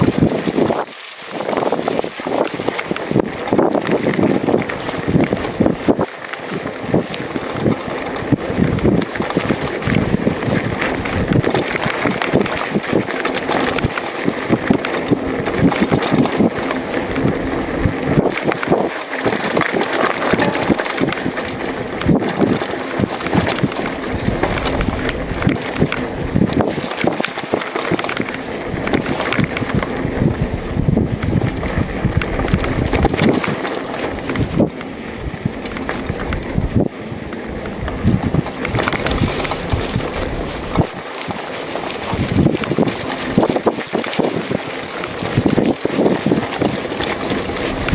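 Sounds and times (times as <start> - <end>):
bike rattling over bumps: 0.0 - 47.9
tyres running on dirt: 0.0 - 47.9
wind buffeting microphone: 0.0 - 47.9.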